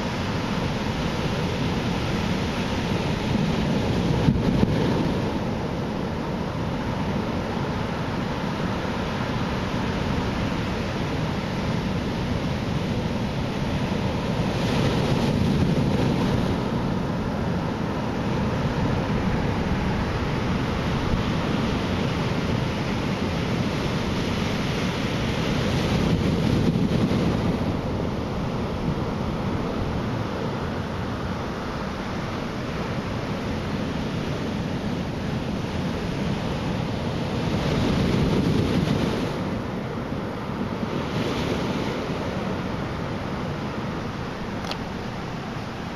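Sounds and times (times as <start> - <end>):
surf breaking on beach: 0.0 - 45.9.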